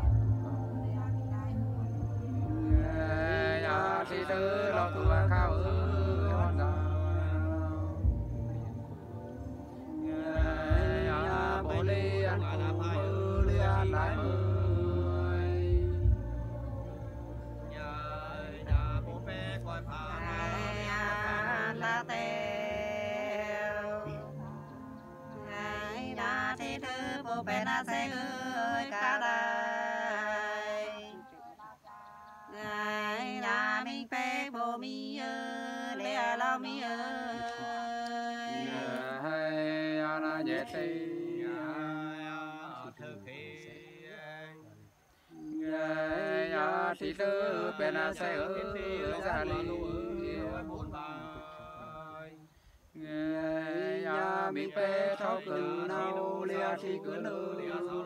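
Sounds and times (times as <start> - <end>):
women singing unaccompanied: 0.0 - 44.1, 45.3 - 58.0
men singing in reply: 2.4 - 8.8, 9.8 - 31.4, 32.3 - 44.7, 45.4 - 58.0.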